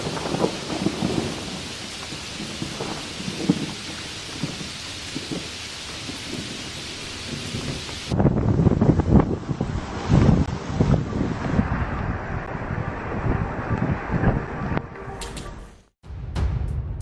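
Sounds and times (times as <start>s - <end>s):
heavy rain pouring: 0.0s - 14.9s
low rumbling gusts: 0.0s - 15.0s
wind blasting on microphone: 0.0s - 15.0s.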